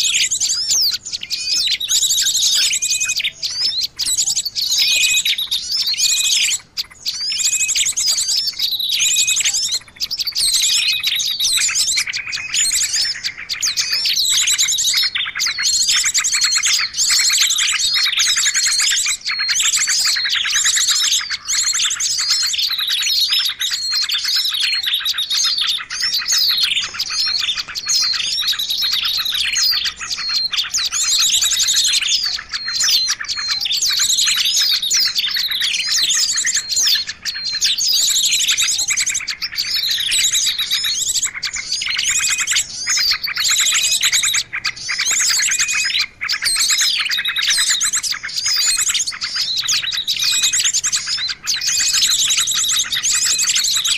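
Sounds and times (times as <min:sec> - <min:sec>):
chorus of songbirds chirping: 0:00.0 - 0:53.9.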